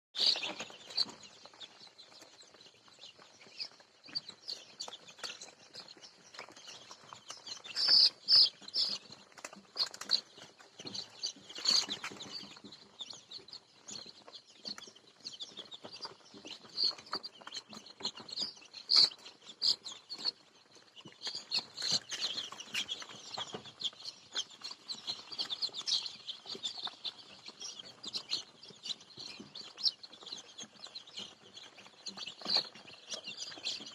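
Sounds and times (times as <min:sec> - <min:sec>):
chickens chirping: 0:00.2 - 0:33.9.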